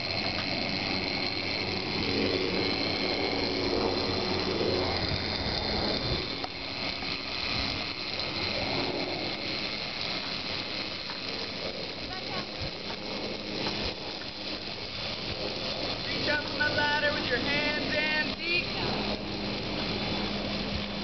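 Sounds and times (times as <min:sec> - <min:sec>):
wind: 0:00.0 - 0:21.0
zipline pulleys whirring on cable: 0:00.0 - 0:21.0.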